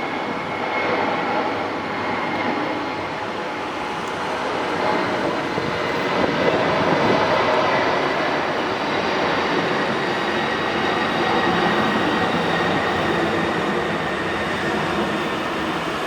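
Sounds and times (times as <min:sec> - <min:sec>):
faint train whine: 0:00.0 - 0:16.0.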